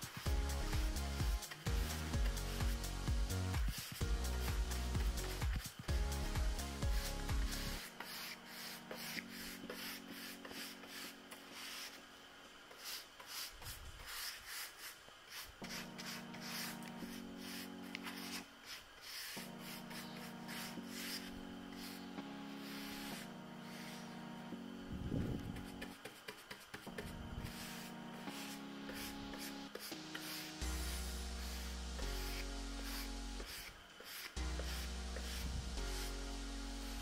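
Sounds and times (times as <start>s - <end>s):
paintbrush strokes on wood: 0.0s - 24.6s, 25.4s - 37.0s.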